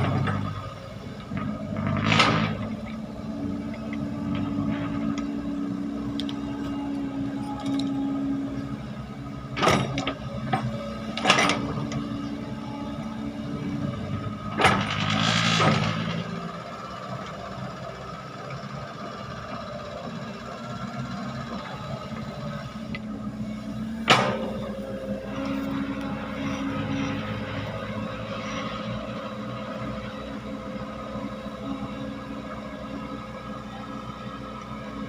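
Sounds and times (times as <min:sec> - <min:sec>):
heavy machinery diesel engine running: 0:00.0 - 0:35.0.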